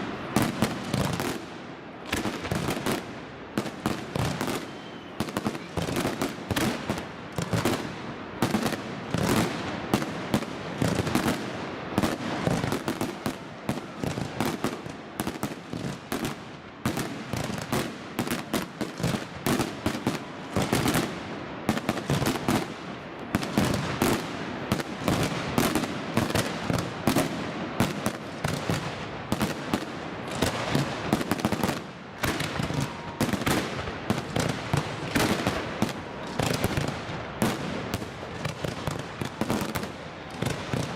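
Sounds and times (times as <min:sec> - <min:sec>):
firework bangs and crackling: 0:00.0 - 0:40.9.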